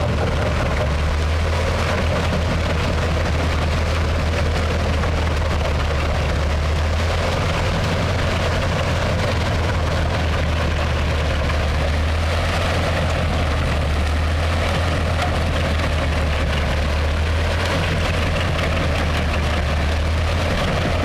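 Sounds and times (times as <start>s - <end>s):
deep engine drone: 0.0s - 21.0s
wood chipper rushing noise: 0.0s - 21.0s.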